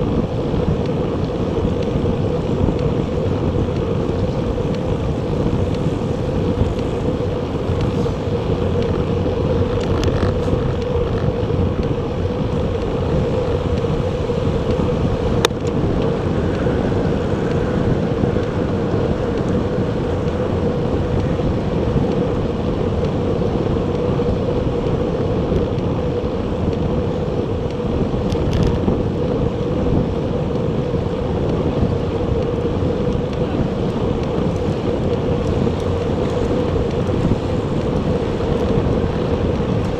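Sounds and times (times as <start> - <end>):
mid-pitched hum: 0.0 - 39.9
wind rushing over microphone: 0.0 - 39.9.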